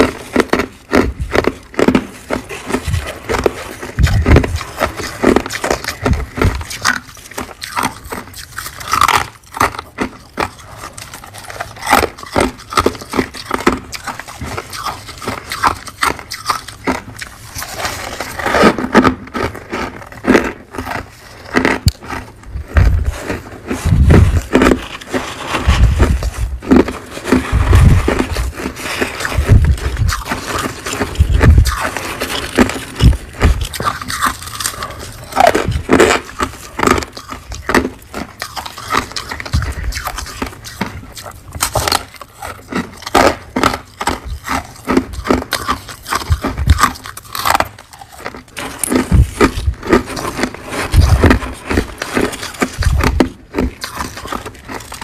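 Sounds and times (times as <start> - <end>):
chewing thuds: 0.0 - 55.0
crunching frost: 0.0 - 55.0.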